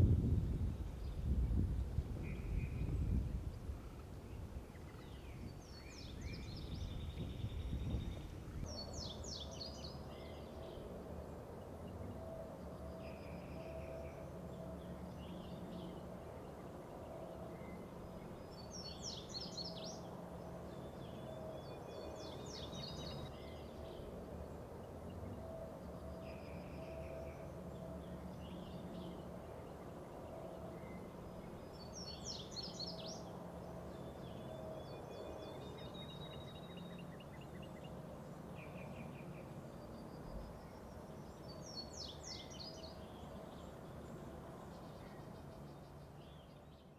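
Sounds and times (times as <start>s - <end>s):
steady low background hum: 0.0s - 46.9s.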